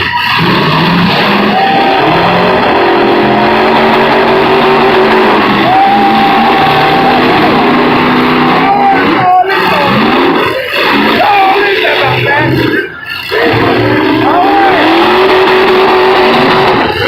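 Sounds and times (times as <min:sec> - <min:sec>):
high engine whine: 0:00.0 - 0:17.0
pickup truck engines revving: 0:00.0 - 0:17.0.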